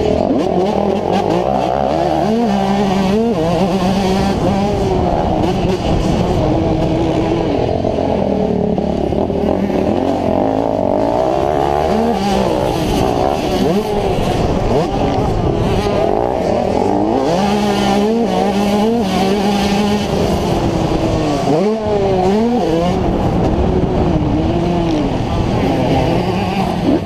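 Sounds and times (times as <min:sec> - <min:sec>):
two-stroke engine revving hard: 0:00.0 - 0:27.0.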